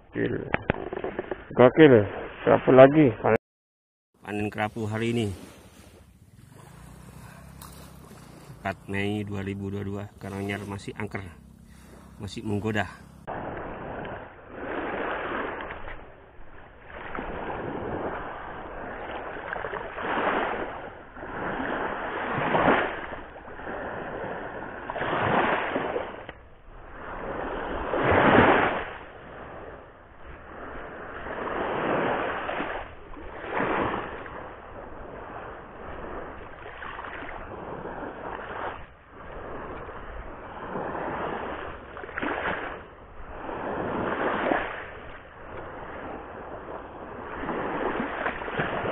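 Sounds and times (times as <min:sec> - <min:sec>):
surf breaking on shore: 0:00.1 - 0:03.4, 0:04.2 - 0:48.9.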